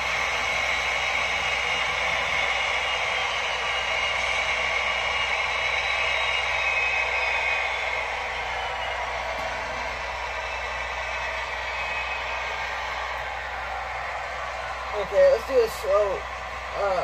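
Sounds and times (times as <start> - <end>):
model train mechanical hum: 0.0 - 17.0.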